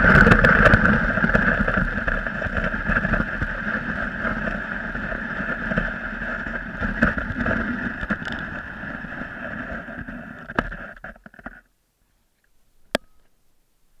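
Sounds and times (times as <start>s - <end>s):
sled sliding over snow: 0.0s - 11.7s.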